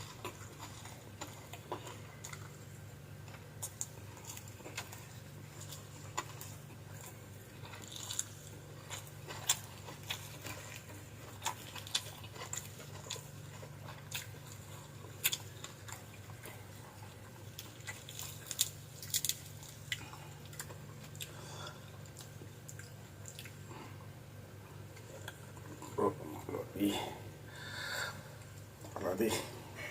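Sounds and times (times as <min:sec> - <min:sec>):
person chewing crunchy food: 0:00.0 - 0:26.0
steady low hum: 0:00.0 - 0:29.9.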